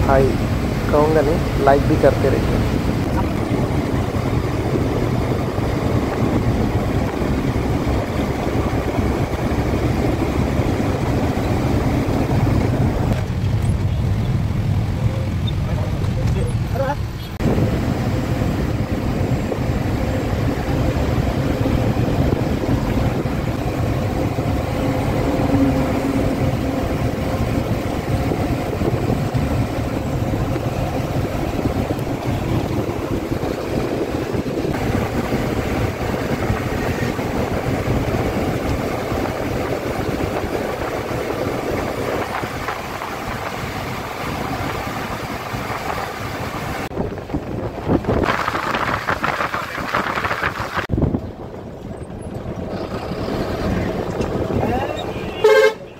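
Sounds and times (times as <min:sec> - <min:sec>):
bus engine drone: 0:00.0 - 0:55.9
road rumble: 0:00.0 - 0:55.9.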